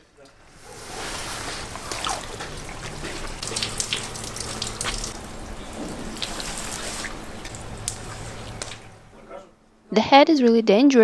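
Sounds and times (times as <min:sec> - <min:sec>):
water running and splashing: 0:00.2 - 0:09.4.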